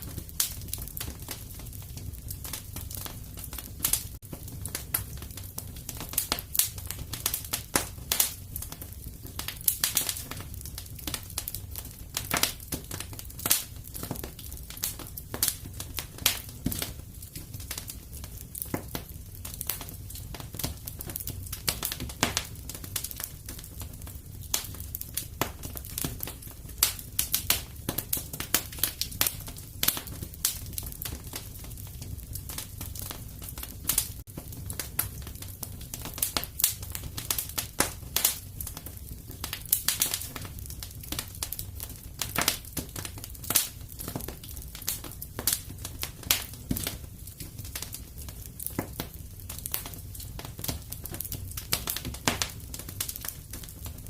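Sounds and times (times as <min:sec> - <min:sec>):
low fire rumble: 0:00.0 - 0:54.0
wood fire snaps and pops: 0:00.0 - 0:54.0.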